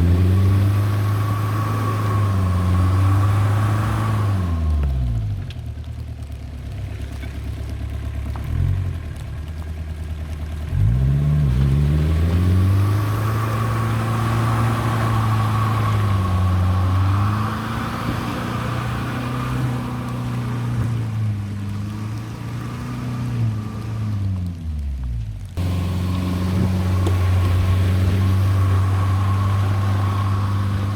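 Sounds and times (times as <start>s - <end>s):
diesel engine revving: 0.0s - 30.9s.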